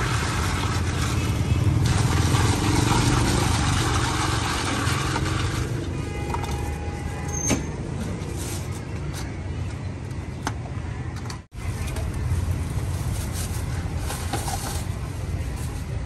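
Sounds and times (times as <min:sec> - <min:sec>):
motorbike engines: 0:00.0 - 0:16.0
street traffic rumble: 0:00.0 - 0:16.0.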